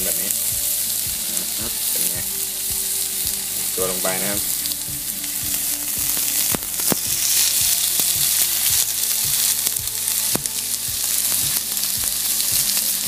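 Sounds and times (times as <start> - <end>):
crackling pops: 0.0 - 13.0
fish sizzling on grill pan: 0.0 - 13.0.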